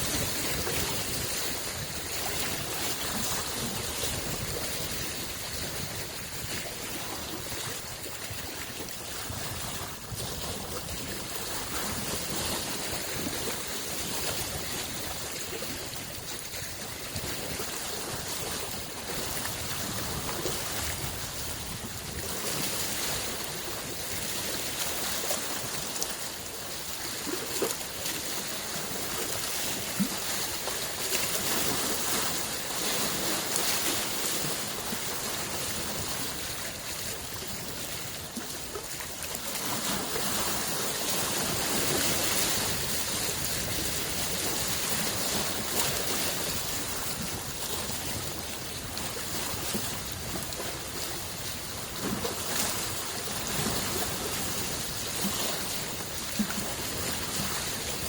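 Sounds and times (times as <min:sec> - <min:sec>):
lake waves lapping on shore: 0:00.0 - 0:58.0.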